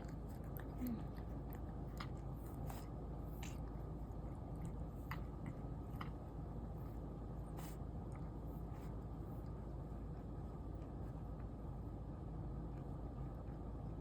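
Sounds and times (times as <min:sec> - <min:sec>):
cat chewing food: 0:00.0 - 0:14.0
low steady hum: 0:00.0 - 0:14.0.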